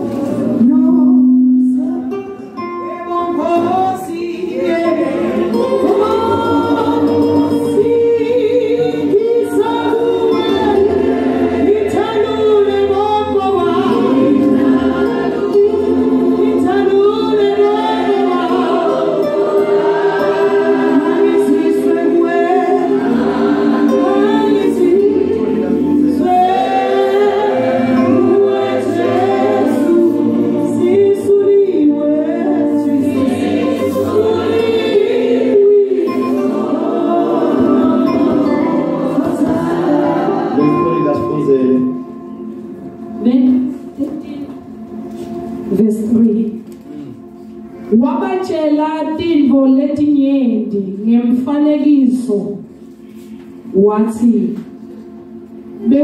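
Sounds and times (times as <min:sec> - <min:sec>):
choir singing gospel: 0:00.0 - 0:49.6
keyboard accompaniment: 0:00.0 - 0:56.0.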